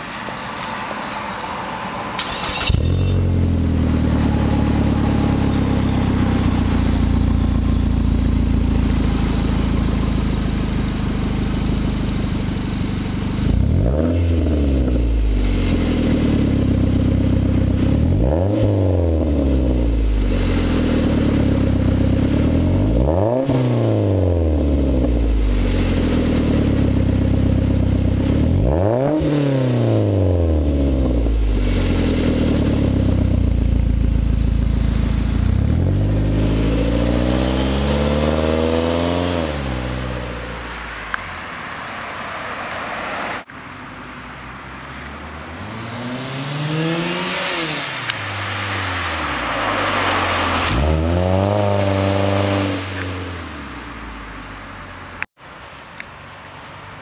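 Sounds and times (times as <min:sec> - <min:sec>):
car engine idling and revving: 0:00.0 - 0:55.4
car accelerating away: 0:02.1 - 0:12.0, 0:12.8 - 0:41.2, 0:44.8 - 0:55.2.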